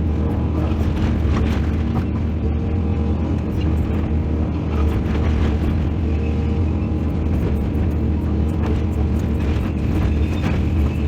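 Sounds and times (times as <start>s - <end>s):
excavator diesel engine under load: 0.0s - 11.0s.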